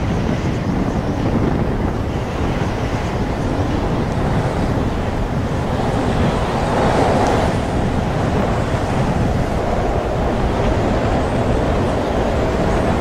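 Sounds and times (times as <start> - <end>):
choppy sea: 0.0 - 13.0
strong wind on microphone: 0.0 - 13.0.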